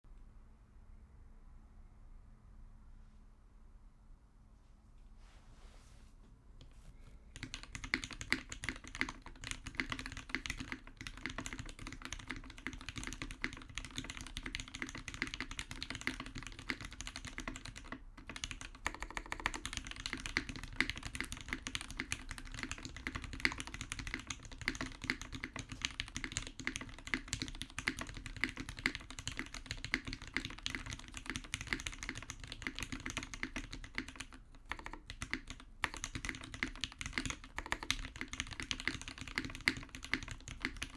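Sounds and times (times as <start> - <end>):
mechanical keyboard typing: 7.3 - 40.9.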